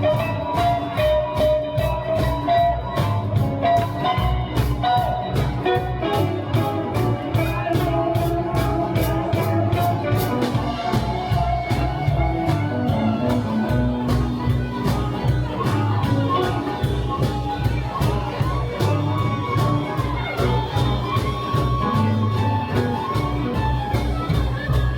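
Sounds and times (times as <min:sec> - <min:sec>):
drum beat: 0:00.0 - 0:24.9
live blues-rock band: 0:00.0 - 0:24.9.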